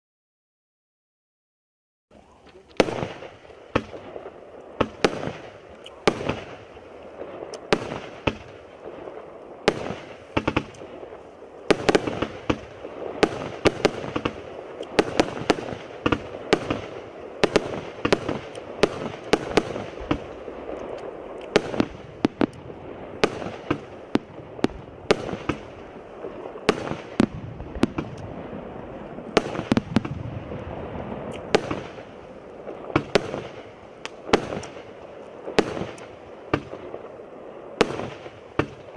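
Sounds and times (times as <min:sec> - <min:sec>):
firework cake shots: 0:02.4 - 0:08.6, 0:09.7 - 0:28.5, 0:29.2 - 0:37.2, 0:37.8 - 0:38.9.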